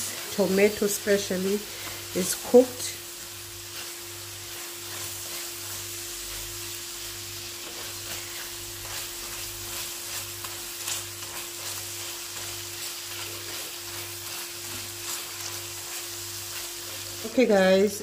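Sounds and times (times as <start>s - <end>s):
masala sizzling in a pan: 0.0s - 18.0s.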